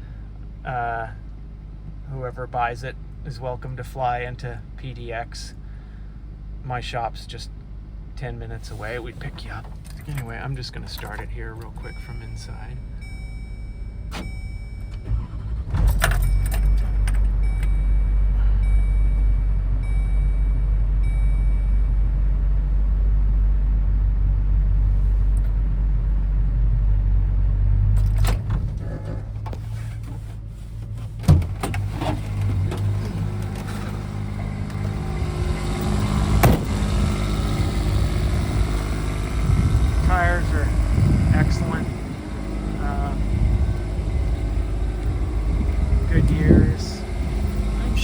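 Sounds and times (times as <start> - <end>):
truck engine starting and idling: 8.2 - 48.0.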